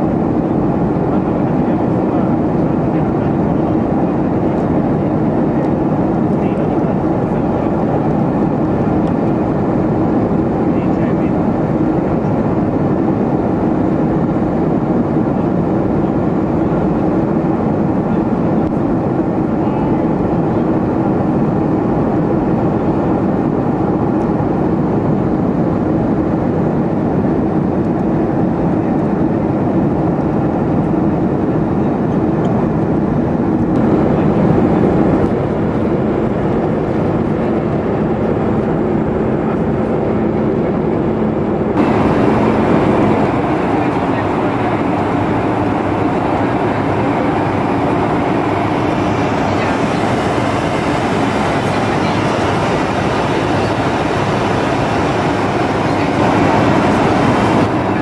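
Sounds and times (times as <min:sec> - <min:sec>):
airplane cabin engine noise: 0:00.0 - 0:58.0
constant low hum: 0:00.0 - 0:58.0.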